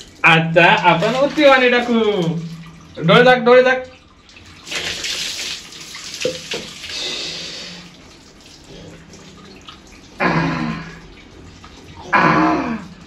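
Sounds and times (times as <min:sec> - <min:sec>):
water pouring and splashing: 0:00.0 - 0:13.0.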